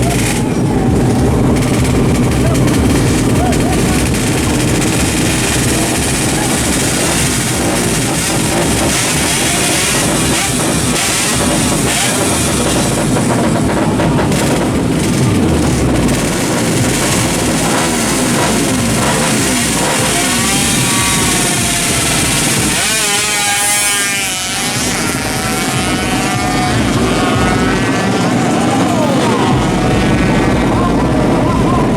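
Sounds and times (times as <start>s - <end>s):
raspy two-stroke engines revving: 0.0s - 31.9s.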